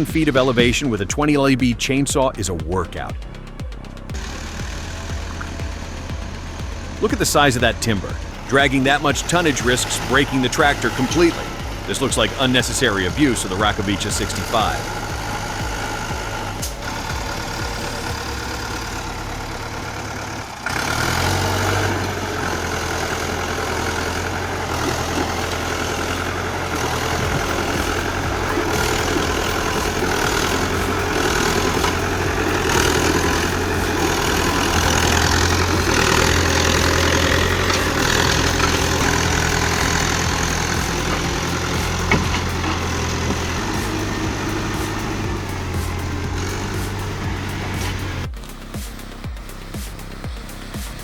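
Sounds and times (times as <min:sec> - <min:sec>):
heavy engine running: 0:00.0 - 0:51.0
louder engine running: 0:00.0 - 0:51.0.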